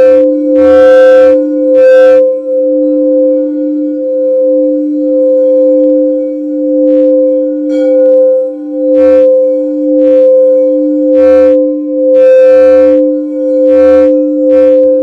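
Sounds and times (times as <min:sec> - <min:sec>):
singing bowls ringing: 0:00.0 - 0:15.0.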